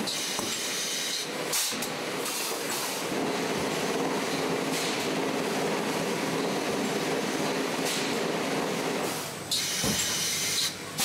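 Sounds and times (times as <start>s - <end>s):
industrial machinery running: 0.0s - 11.0s.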